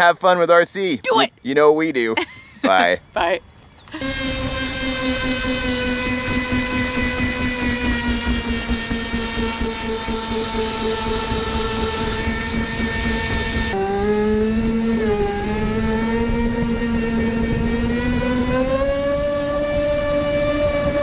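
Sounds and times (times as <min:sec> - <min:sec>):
electric motor whining: 0:03.9 - 0:21.0.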